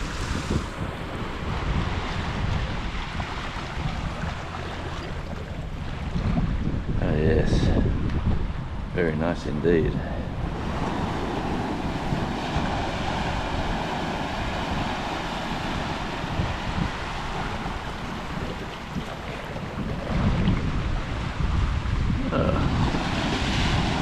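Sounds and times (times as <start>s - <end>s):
surf washing onto beach: 0.0s - 7.2s, 10.3s - 24.0s
wind buffeting microphone: 0.0s - 24.0s.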